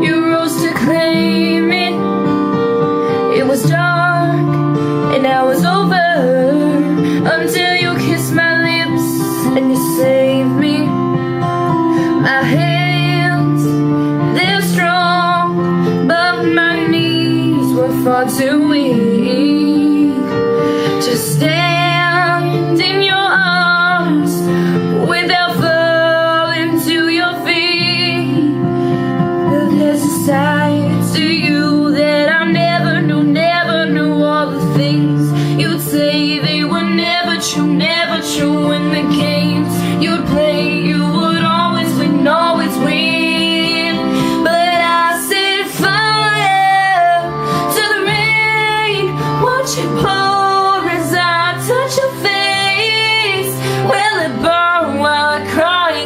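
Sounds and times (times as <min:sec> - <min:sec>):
instrumental backing music: 0:00.0 - 0:56.0
woman singing: 0:00.0 - 0:56.0.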